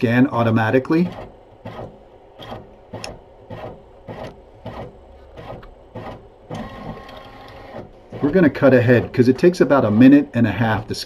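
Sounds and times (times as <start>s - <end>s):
scanner tray stepping mechanically: 0.1s - 11.0s.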